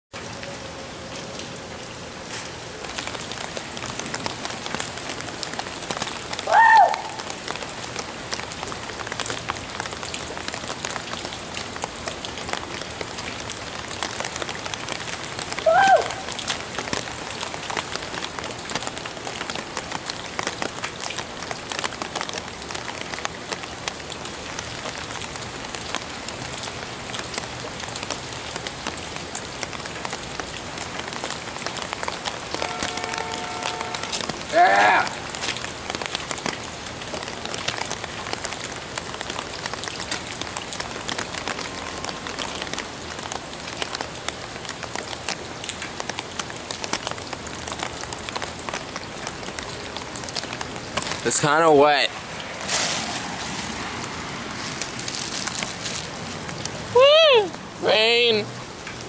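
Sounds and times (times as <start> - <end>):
rain falling on wet street: 0.1 - 59.0.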